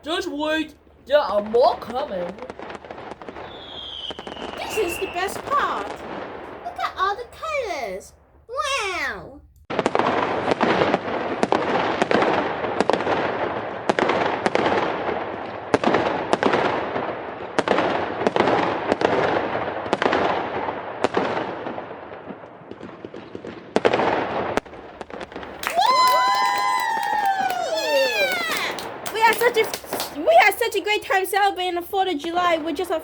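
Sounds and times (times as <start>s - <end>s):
fireworks bangs: 0.0s - 33.0s
fireworks crackling: 0.0s - 33.0s.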